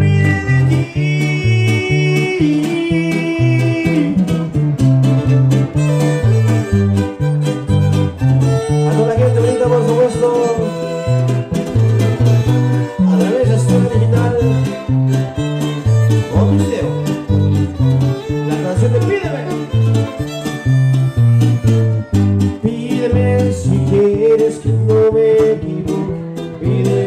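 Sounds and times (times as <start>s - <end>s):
bass guitar notes: 0.0s - 27.0s
strummed jarana: 0.0s - 27.0s
violin melody: 0.0s - 27.0s.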